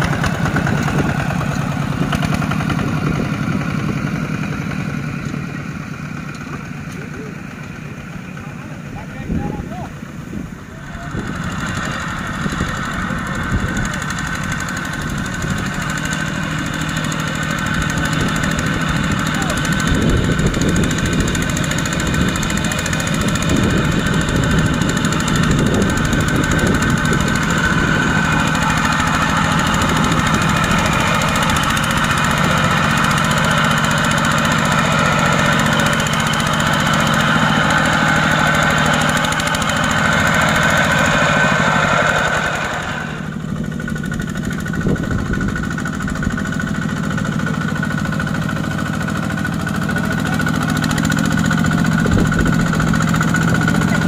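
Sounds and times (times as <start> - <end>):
diesel tractor engine running hard: 0.0 - 54.0.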